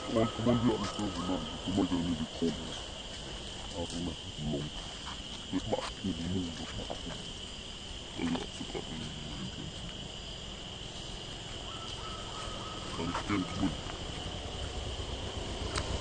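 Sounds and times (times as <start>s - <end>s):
macaques calling: 0.0s - 15.6s
high insect drone: 0.0s - 16.0s.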